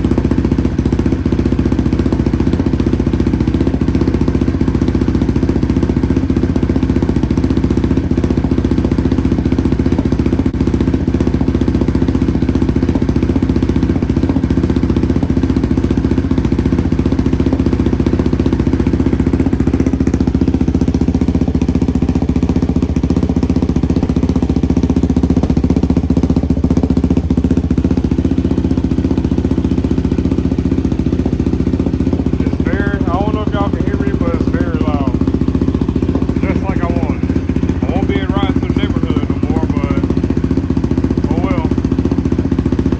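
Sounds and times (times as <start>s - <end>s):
four-stroke engine idling: 0.0s - 42.9s.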